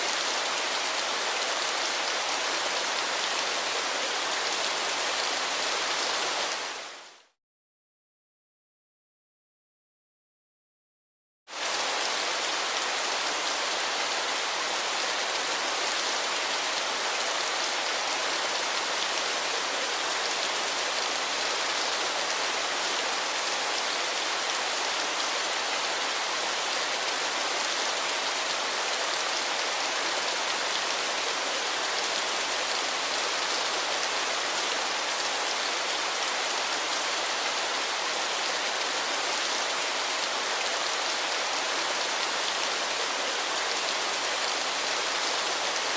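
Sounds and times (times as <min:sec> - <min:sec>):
rush of falling water: 0:00.0 - 0:07.4, 0:11.5 - 0:45.9.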